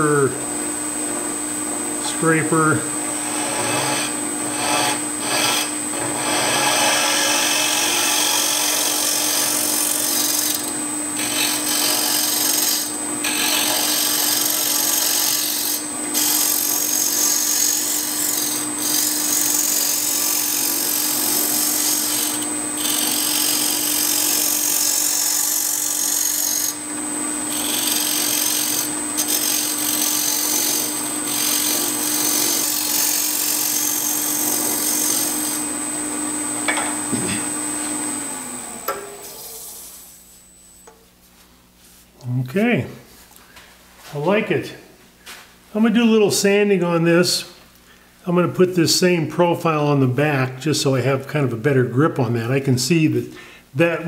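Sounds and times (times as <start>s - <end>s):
steady hum: 8.7s - 54.0s.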